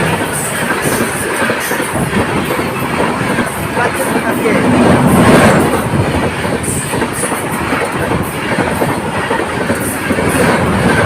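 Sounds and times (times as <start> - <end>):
train wheels clattering over rails: 0.0 - 11.0.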